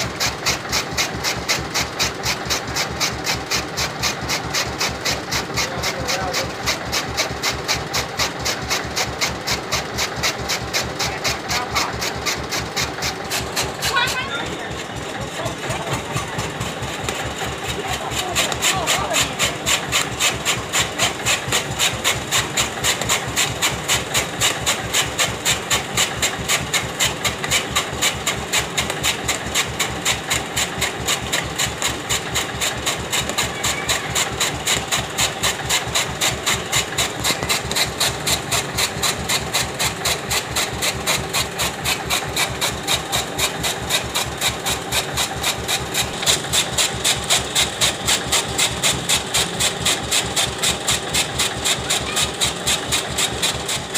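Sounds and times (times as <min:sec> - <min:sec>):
chaff cutter blades chopping: 0:00.0 - 0:53.9
tractor engine running: 0:00.0 - 0:53.9.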